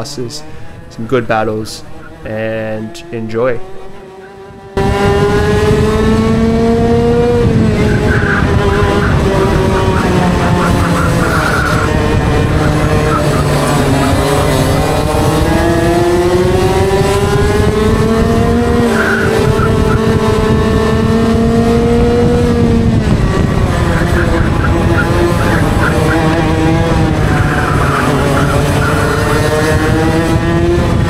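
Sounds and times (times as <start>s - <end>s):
kart engine revving: 0.0s - 31.0s.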